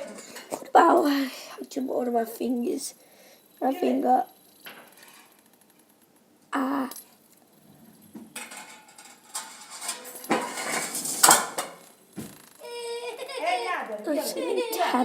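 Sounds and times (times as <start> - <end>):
fidget spinner spinning and rattling: 0.0 - 15.0.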